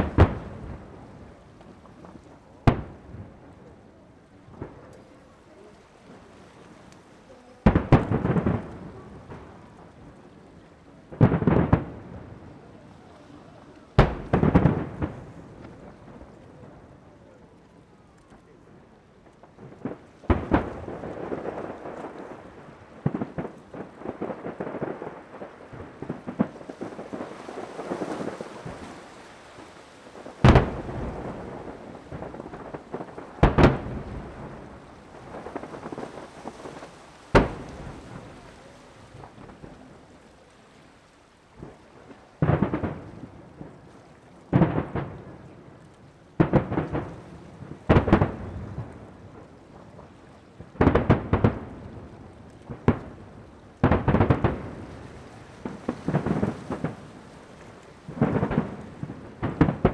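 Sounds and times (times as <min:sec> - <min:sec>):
fireworks booming: 0:00.0 - 0:03.8, 0:04.4 - 0:05.4, 0:07.6 - 0:13.1, 0:13.8 - 0:16.9, 0:19.3 - 0:40.2, 0:41.6 - 0:50.0, 0:50.6 - 0:59.9
fireworks crackling: 0:00.0 - 0:59.9.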